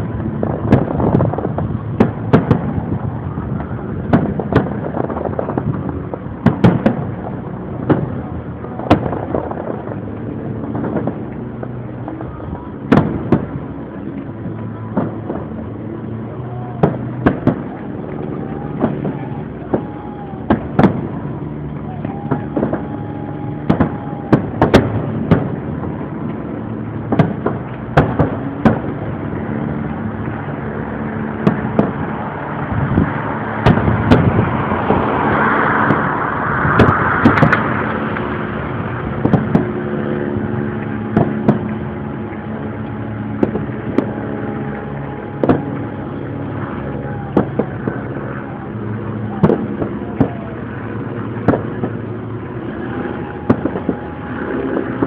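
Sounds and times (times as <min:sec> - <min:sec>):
fireworks bangs: 0:00.0 - 0:55.0
hissing rush: 0:00.0 - 0:55.0
low mechanical hum: 0:00.0 - 0:55.0.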